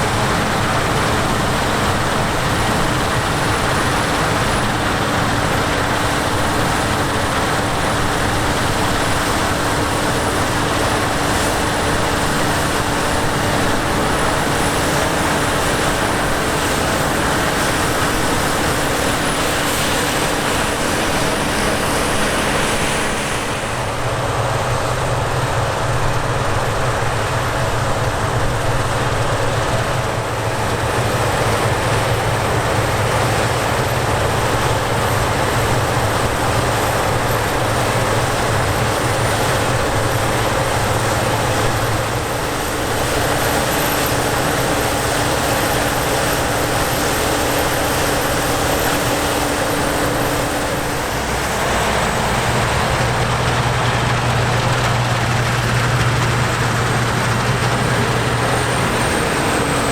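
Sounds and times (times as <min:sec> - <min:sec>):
diesel engine drone: 0:00.0 - 0:59.9.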